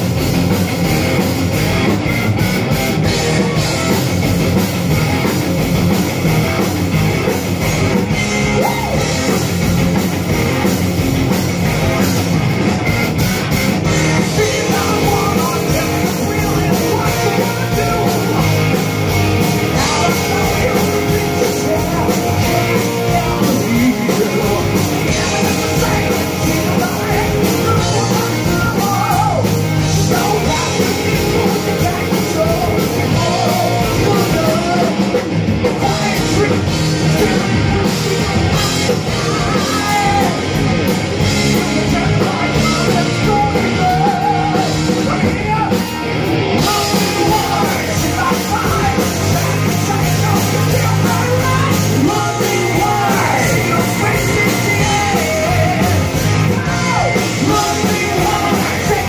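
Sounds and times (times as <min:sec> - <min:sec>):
bass guitar: 0:00.0 - 0:59.0
drum kit: 0:00.0 - 0:59.0
electric guitar: 0:00.0 - 0:59.0
man singing and shouting: 0:02.9 - 0:12.3, 0:13.7 - 0:59.0.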